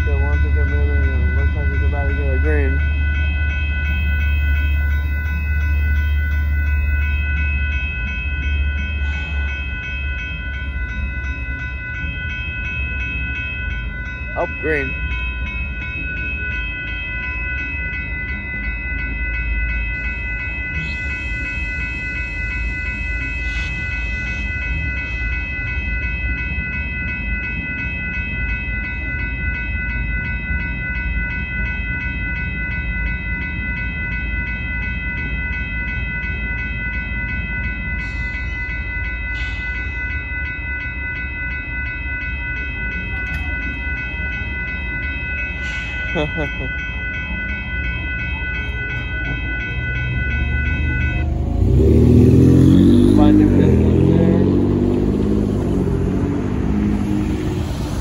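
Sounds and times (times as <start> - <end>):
crossing warning bell ringing: 0.0 - 58.0
train rumble: 0.0 - 58.0.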